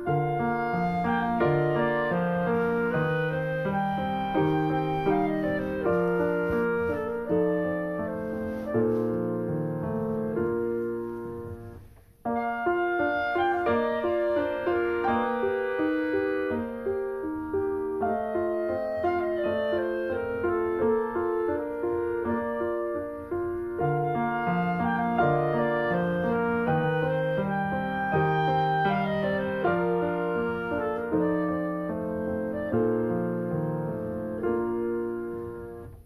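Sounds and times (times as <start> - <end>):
piano instrumental music: 0.0 - 36.0.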